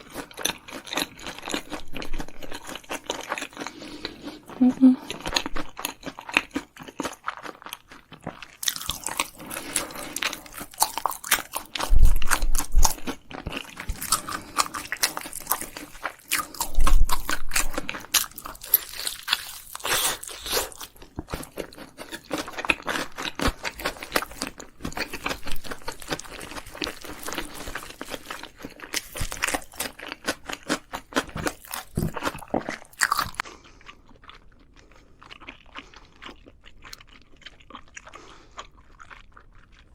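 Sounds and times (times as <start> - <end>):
person crunching and chewing food: 0.0 - 39.9.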